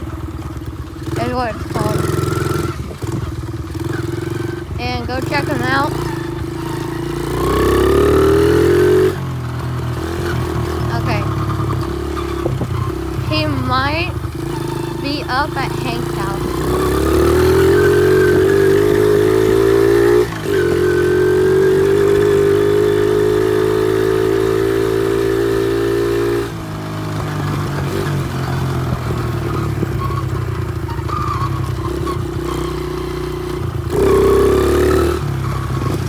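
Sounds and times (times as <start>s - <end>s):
motorbike engine running: 0.0s - 36.0s.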